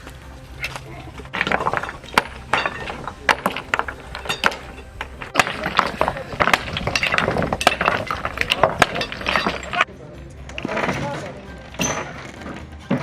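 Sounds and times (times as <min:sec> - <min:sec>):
people's voices in background: 0:00.0 - 0:13.0
demolition knocks and metal clinks: 0:00.3 - 0:13.0.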